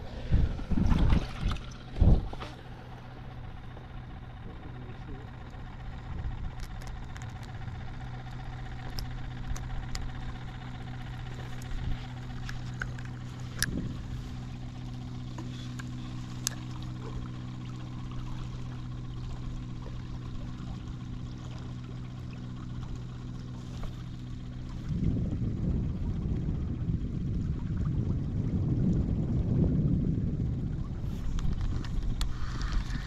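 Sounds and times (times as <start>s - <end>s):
low engine hum: 0.0s - 33.0s.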